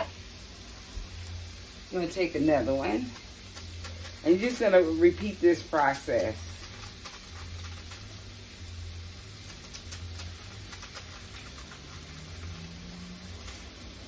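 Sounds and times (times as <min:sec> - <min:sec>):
food sizzling in oil: 0:00.0 - 0:14.0
cabbage leaves rustling: 0:01.9 - 0:08.6, 0:09.2 - 0:14.0.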